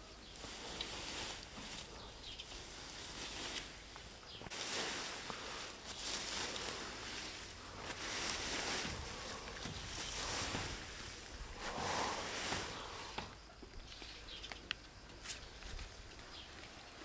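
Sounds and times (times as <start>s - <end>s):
rake rustling through dry leaves: 0.0s - 17.0s.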